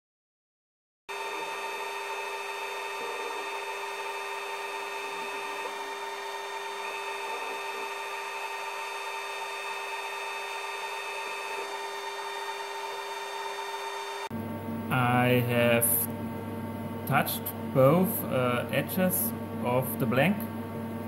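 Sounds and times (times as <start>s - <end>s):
steady hum tones: 1.7s - 21.0s.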